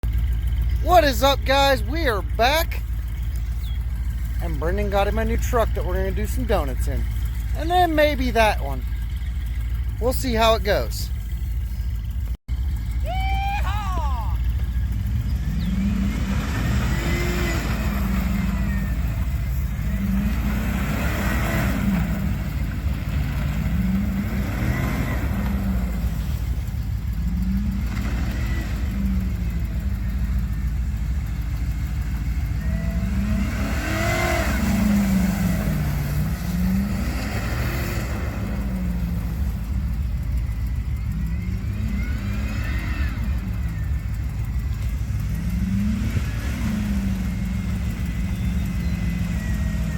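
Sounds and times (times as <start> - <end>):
pickup truck engine revving: 0.0 - 49.9.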